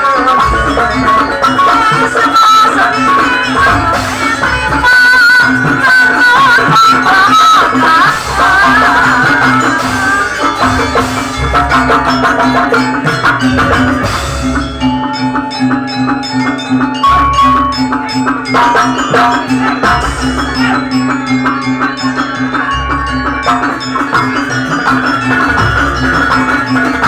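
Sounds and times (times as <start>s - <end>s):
drum strokes: 0.0s - 27.0s
mallet percussion tones: 0.0s - 27.0s
traditional ensemble music: 0.0s - 27.0s.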